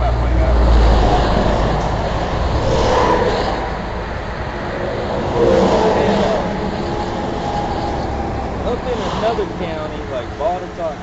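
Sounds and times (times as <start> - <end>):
vehicles passing on highway: 0.0 - 11.0.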